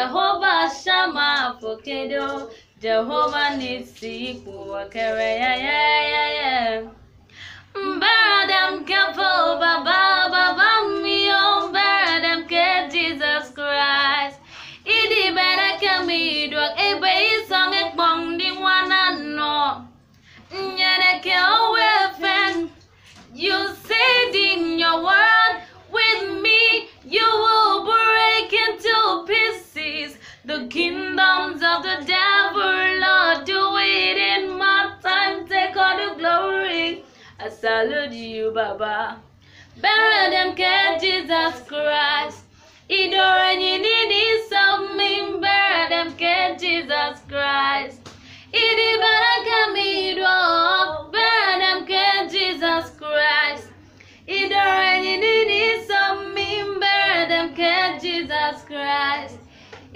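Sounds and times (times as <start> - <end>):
woman singing unaccompanied: 0.0 - 7.0, 7.7 - 59.9.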